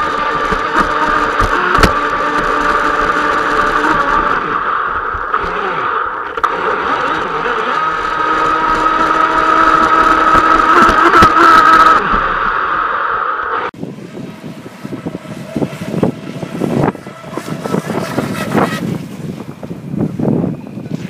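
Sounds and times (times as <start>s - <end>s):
model boat motor whining: 0.0s - 21.0s.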